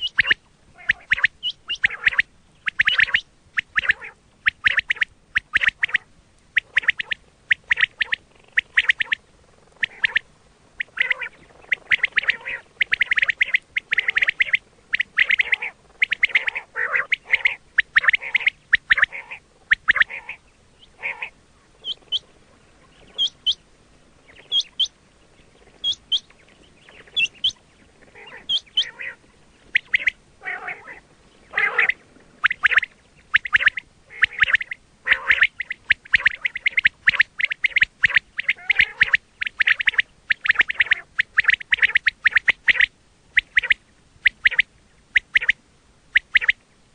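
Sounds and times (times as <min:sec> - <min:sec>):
thin high rising chirps: 0:00.0 - 0:22.2, 0:24.3 - 0:30.2, 0:31.4 - 0:46.6
quail calling: 0:00.0 - 0:46.6.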